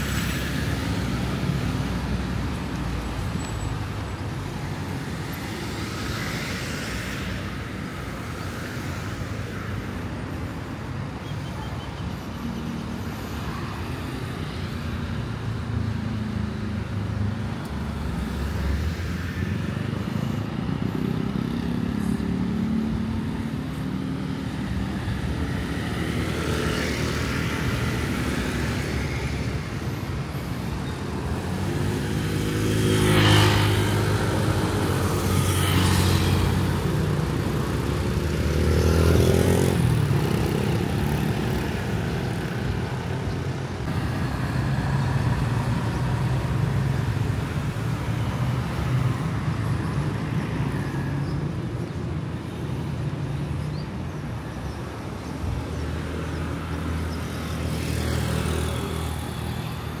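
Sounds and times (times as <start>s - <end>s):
vehicles passing close by: 0.0s - 60.0s.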